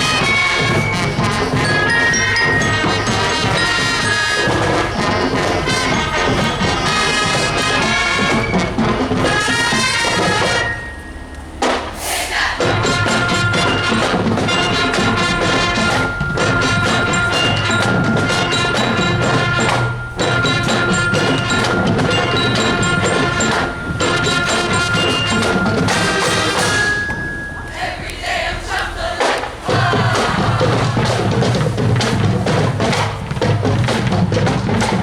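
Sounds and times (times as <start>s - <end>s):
band playing a tune: 0.0s - 35.0s
rapid percussion strikes: 0.0s - 35.0s.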